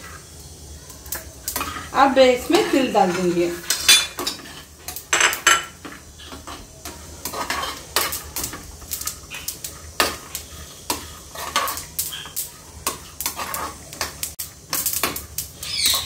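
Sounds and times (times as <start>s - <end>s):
spatula scraping nuts in pan: 0.0s - 16.0s.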